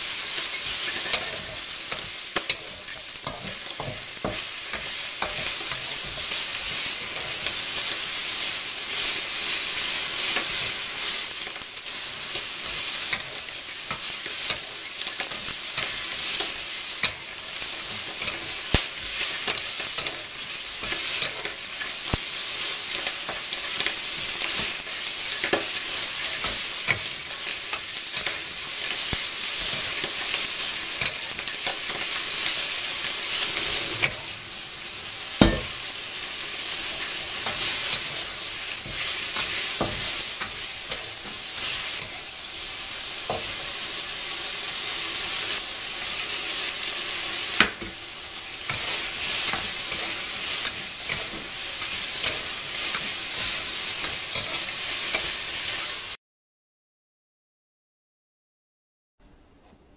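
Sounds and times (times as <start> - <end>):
spatula scraping a pan: 0.0 - 34.3, 36.6 - 43.8, 47.6 - 56.0
meat sizzling in a wok: 0.0 - 56.2.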